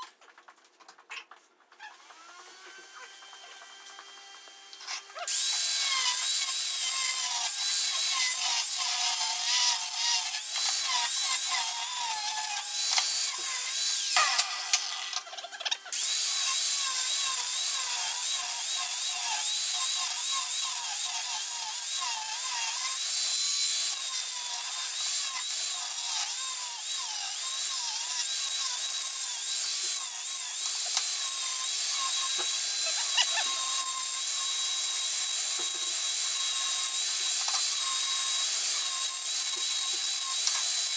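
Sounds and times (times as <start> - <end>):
power drill whining: 1.9 - 40.9.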